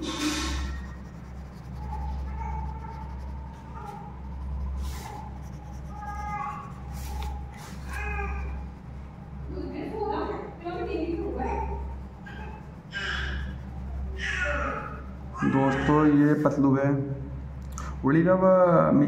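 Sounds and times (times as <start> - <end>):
pencil scratching on paper: 0.0 - 9.9, 10.6 - 16.0
faint pitched calls: 0.0 - 16.2
steady low hum: 0.0 - 19.0.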